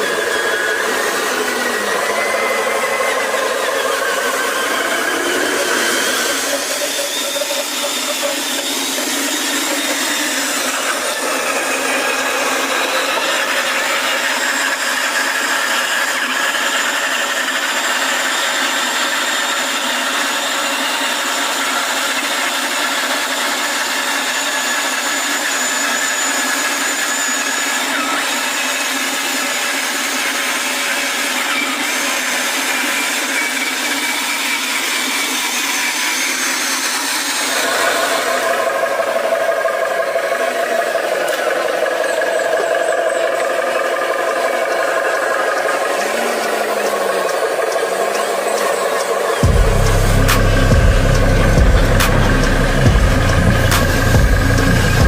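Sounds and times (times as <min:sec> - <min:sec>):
small motor whining: 0:00.0 - 0:55.0.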